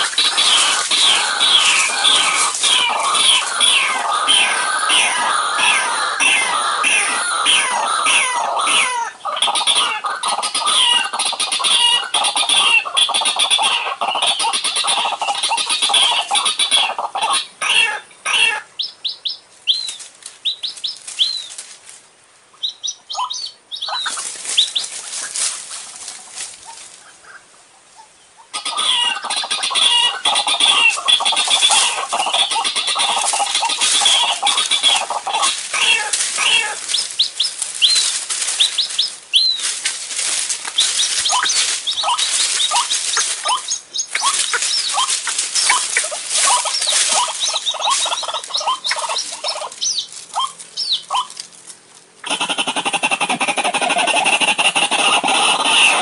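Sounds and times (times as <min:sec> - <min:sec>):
waterhen croaking calls: 0:00.0 - 0:21.5, 0:22.5 - 0:39.7, 0:40.7 - 0:51.4, 0:52.2 - 0:56.0.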